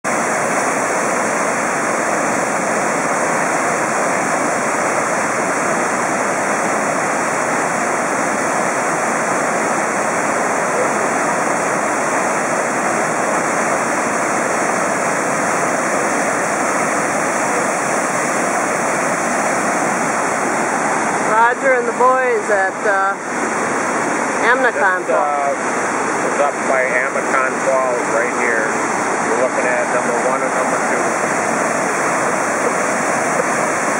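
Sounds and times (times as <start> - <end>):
waterfall rushing over rock: 0.1 - 33.9.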